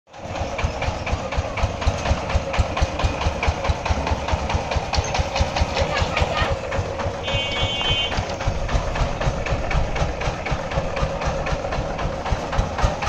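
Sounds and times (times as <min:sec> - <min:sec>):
diesel engine putt-putt: 0:00.1 - 0:13.0.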